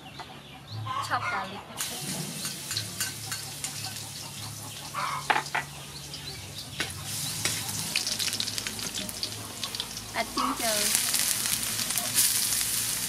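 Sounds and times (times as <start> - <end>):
garlic sizzling in oil: 1.8 - 13.0.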